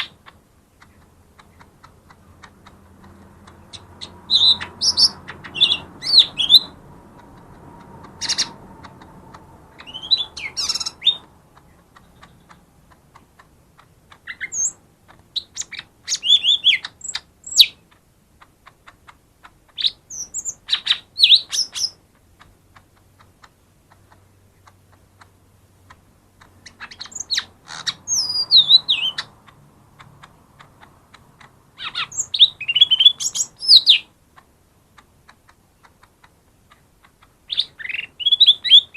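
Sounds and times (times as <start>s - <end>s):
small bird singing: 0.0s - 38.9s.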